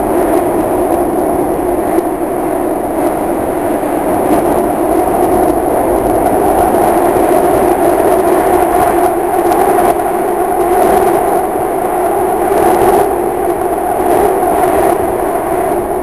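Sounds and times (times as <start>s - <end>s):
subway train running noise: 0.0s - 16.0s.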